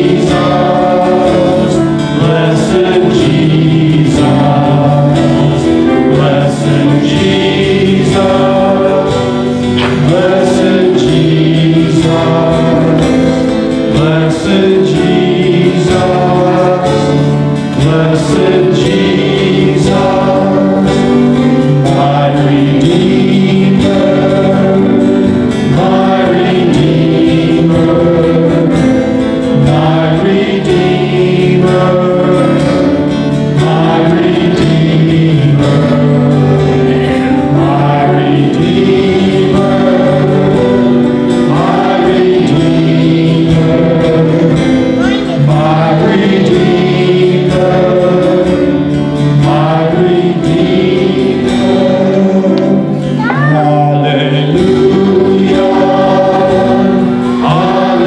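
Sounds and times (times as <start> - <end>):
children singing in chorus: 0.0 - 58.0
sustained musical accompaniment: 0.0 - 58.0.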